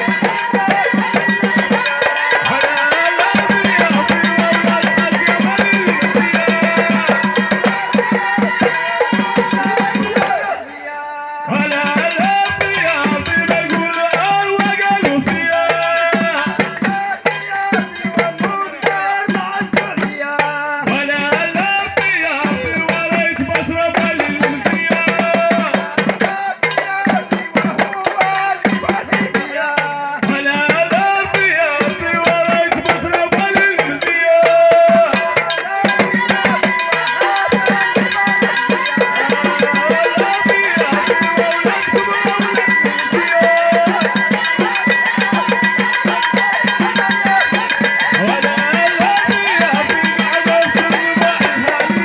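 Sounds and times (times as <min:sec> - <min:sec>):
frame drums beating: 0:00.0 - 0:10.6, 0:11.5 - 0:52.0
men singing: 0:00.0 - 0:52.0.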